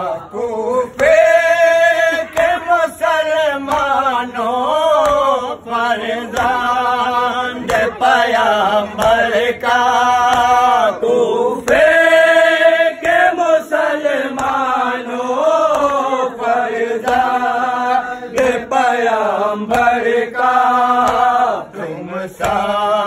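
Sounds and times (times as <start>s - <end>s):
men chanting a lament: 0.0s - 23.0s
hands slapping chests: 0.8s - 23.0s.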